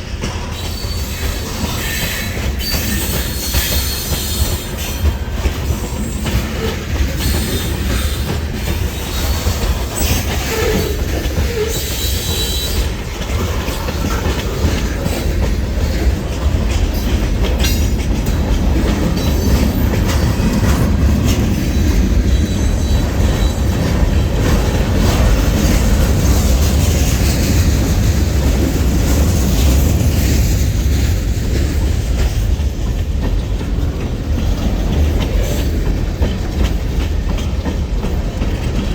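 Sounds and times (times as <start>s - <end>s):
train wheels rumbling over rails: 0.0s - 38.9s.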